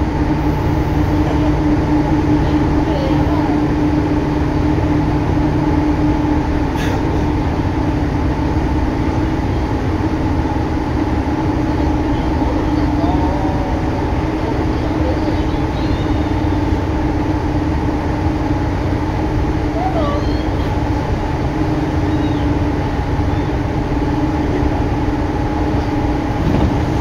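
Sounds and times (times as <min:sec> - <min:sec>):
low hum: 0:00.0 - 0:27.0
train wheels rumbling on rail: 0:00.0 - 0:27.0.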